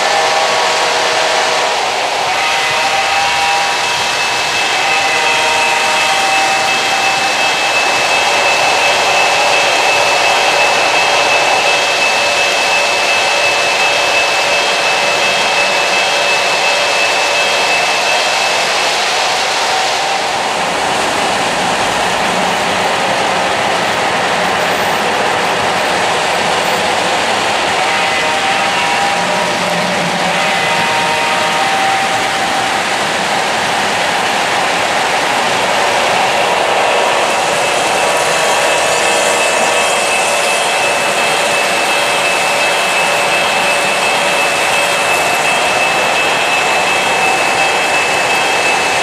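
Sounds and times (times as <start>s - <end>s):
locomotive motor whine: 0.0s - 49.0s
metal wheels rumbling on rail: 0.0s - 49.0s.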